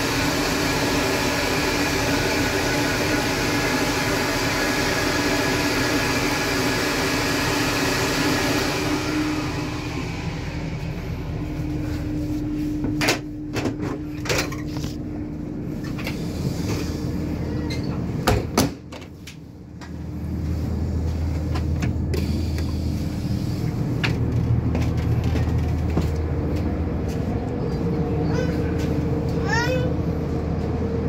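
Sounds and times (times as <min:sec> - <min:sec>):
train interior running hum: 0:00.0 - 0:31.0.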